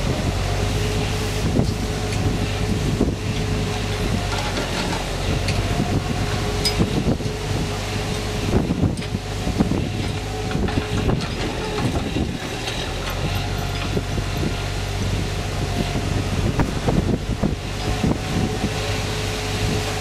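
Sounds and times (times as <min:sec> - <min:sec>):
truck engine and hydraulic loader: 0:00.0 - 0:20.0
wind on microphone: 0:00.0 - 0:20.0.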